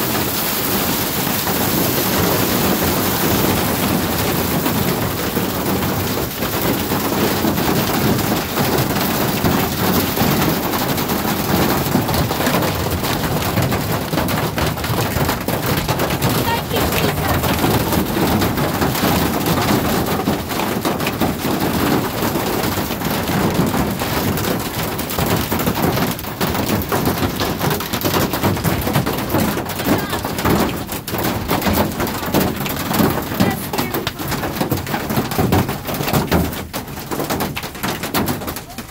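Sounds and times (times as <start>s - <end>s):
hail clattering on metal roof: 0.0s - 38.9s.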